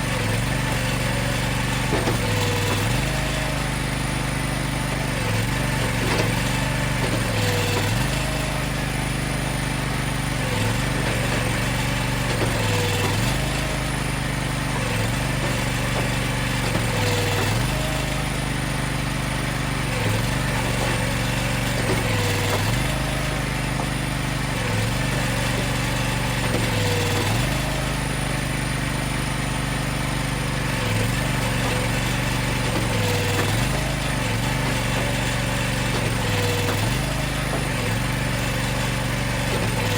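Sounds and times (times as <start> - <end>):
machine engine running under load: 0.0 - 39.9.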